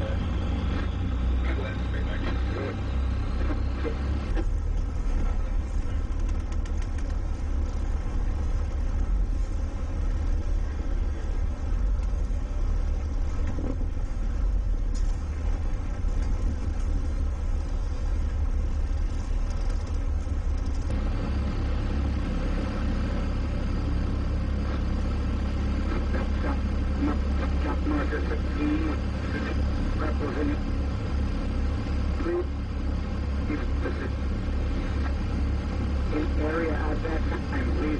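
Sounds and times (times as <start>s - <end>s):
boat engine rumbling: 0.0s - 37.9s
wind: 0.0s - 37.9s
water noise: 0.2s - 37.8s.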